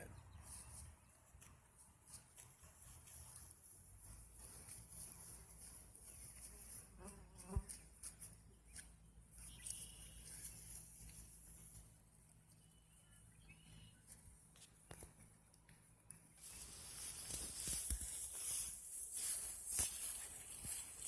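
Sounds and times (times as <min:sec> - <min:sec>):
movement through tall grass: 0:00.5 - 0:15.2, 0:16.4 - 0:21.0.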